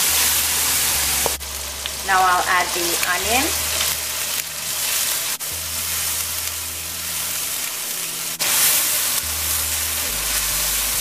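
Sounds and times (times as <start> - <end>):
shrimp sizzling in hot oil: 0.0 - 11.0.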